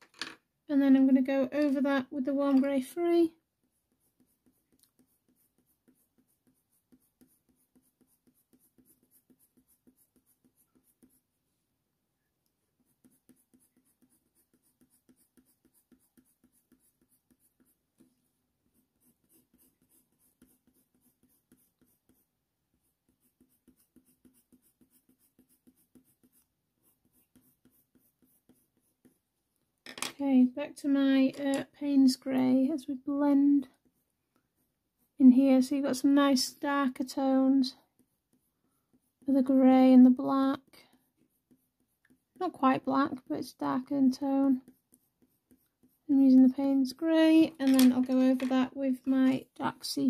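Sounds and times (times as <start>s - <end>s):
pencil scratching on paper: 0.9s - 11.7s, 12.6s - 29.7s, 30.8s - 50.0s.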